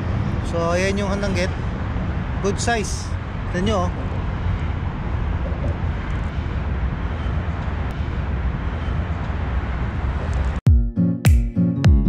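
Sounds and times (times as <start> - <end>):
outdoor background rumble and hiss: 0.0 - 10.6.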